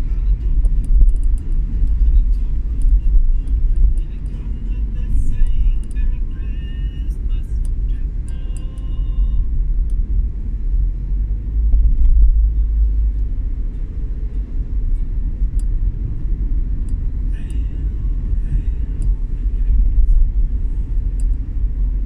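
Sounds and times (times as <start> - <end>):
vehicle rumbling on road: 0.0 - 22.0.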